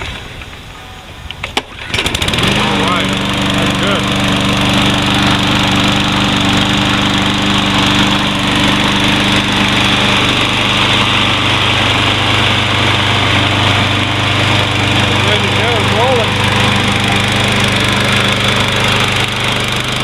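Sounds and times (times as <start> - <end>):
lawn mower engine running: 0.8 - 20.0.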